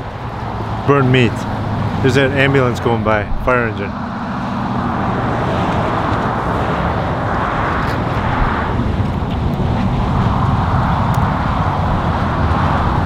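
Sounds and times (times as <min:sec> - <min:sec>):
road traffic engine rumble: 0:00.0 - 0:13.0
tyres and air rushing: 0:00.0 - 0:13.0.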